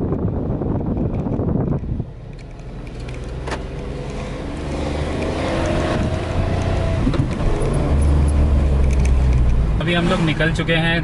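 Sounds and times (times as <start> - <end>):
car engine accelerating: 0.0 - 11.0
road noise: 0.0 - 11.0.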